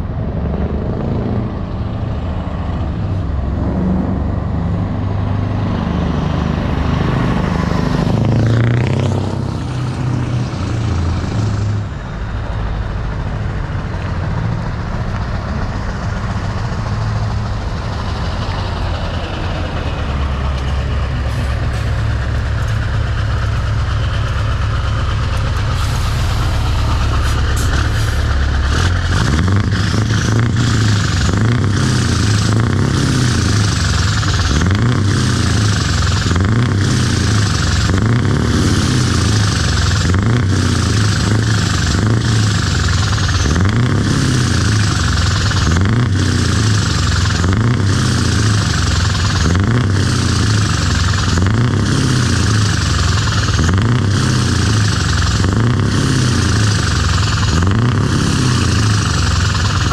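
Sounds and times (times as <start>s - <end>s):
diesel truck engine driving past: 0.0s - 59.9s.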